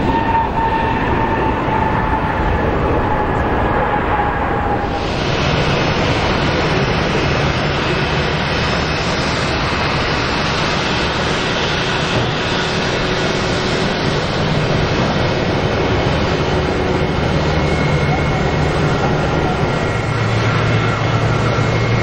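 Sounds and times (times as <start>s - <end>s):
jet engines at taxi power: 0.0s - 22.0s.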